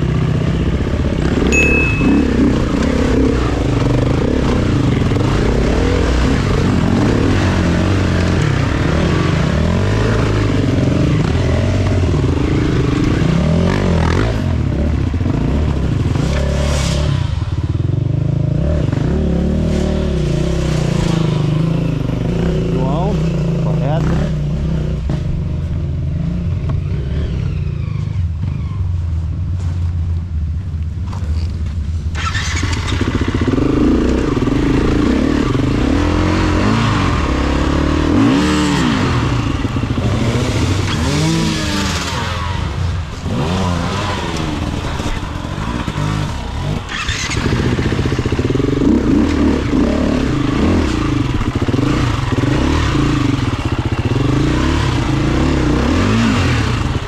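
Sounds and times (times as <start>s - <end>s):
motorbike engine revving: 0.0s - 28.7s, 32.1s - 57.0s.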